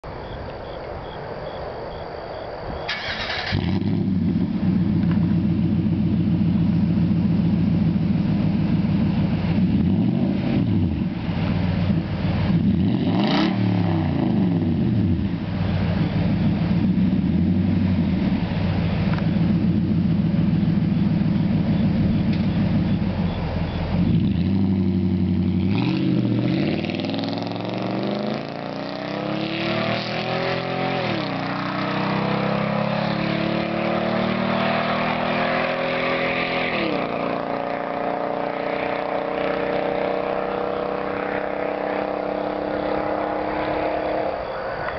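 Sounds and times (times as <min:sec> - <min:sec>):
truck engine idling and revving: 0:02.8 - 0:44.9.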